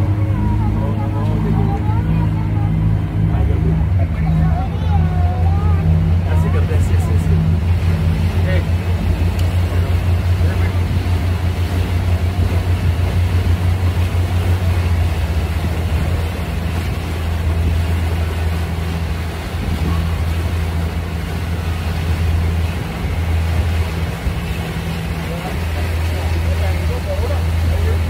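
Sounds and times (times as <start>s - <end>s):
boat engine droning: 0.0s - 28.0s
water and wind rushing: 0.0s - 28.0s.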